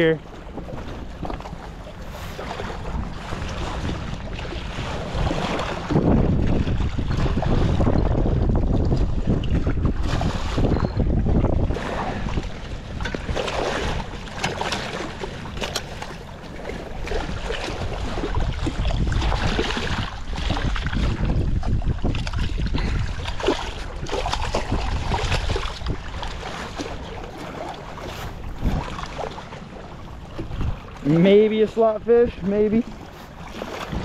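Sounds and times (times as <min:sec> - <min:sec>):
short splashes and knocks: 0:00.0 - 0:34.0
wind buffeting microphone: 0:00.0 - 0:34.0.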